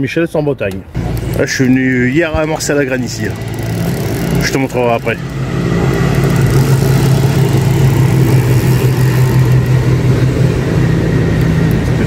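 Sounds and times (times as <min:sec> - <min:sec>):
engine humming steadily: 0:00.9 - 0:12.0.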